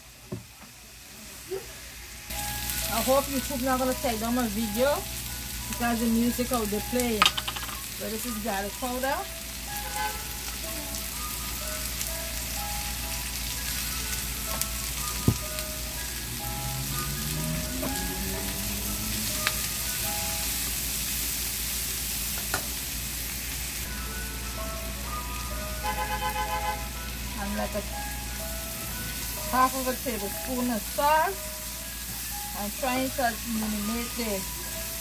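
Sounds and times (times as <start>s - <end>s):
food sizzling in a pan: 0.0s - 35.0s
background tune: 2.3s - 20.8s, 23.8s - 35.0s.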